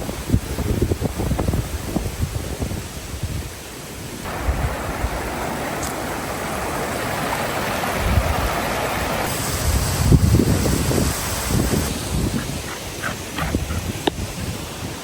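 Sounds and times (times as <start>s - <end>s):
flowing water rushing: 0.0s - 15.0s
wind buffeting microphone: 0.0s - 15.0s.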